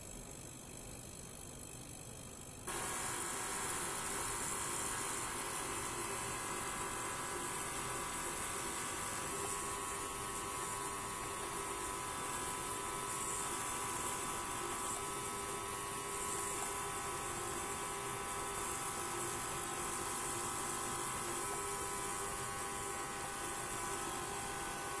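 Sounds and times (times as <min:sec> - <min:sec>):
faint steady tones: 0:02.7 - 0:25.0
ultrasonic cleaner hissing: 0:02.7 - 0:25.0.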